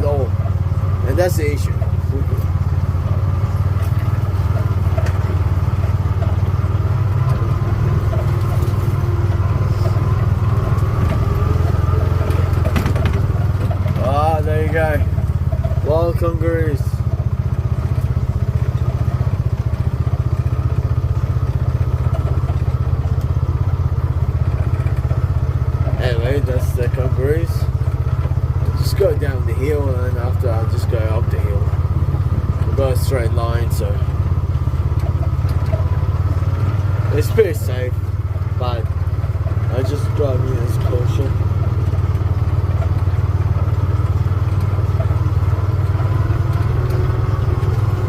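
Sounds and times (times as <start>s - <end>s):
vehicle engine droning: 0.0s - 48.0s.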